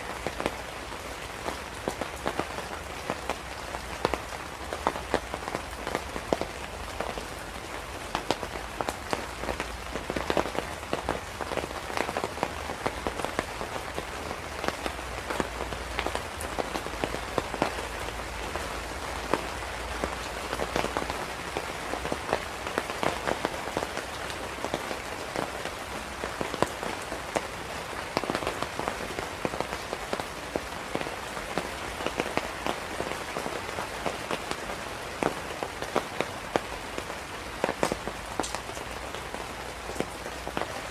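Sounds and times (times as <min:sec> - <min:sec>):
rain drops hitting surface: 0:00.0 - 0:40.9.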